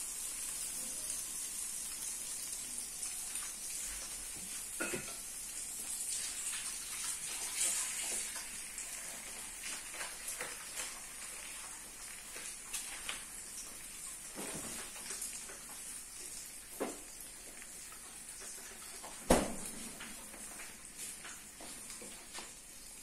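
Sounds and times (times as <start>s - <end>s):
food sizzling in pans: 0.0s - 23.0s.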